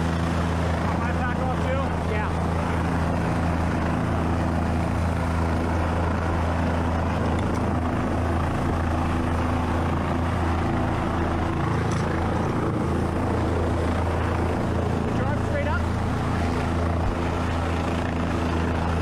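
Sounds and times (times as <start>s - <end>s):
helicopter rotor and engine drone: 0.0s - 19.0s.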